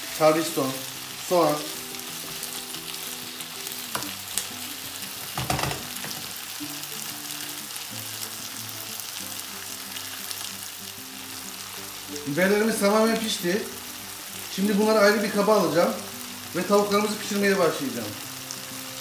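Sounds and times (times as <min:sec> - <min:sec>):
faint background music: 0:00.0 - 0:19.0
vegetables sizzling in a pan: 0:00.0 - 0:19.0.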